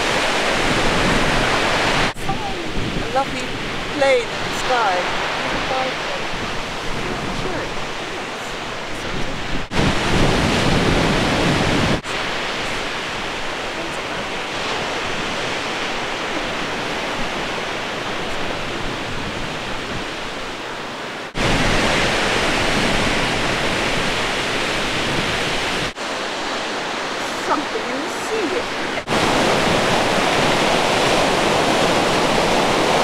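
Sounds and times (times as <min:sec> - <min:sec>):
surf breaking: 0:00.0 - 0:33.0
wind rushing: 0:00.0 - 0:33.0.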